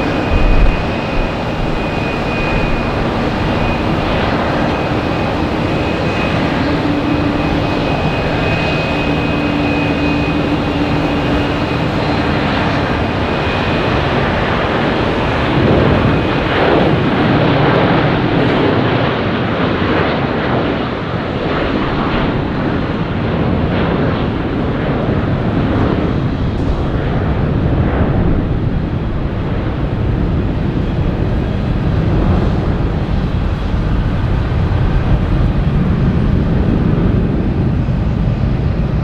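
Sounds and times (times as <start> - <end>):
jet engine roar: 0.0 - 39.0
jet engine whine: 0.0 - 39.0.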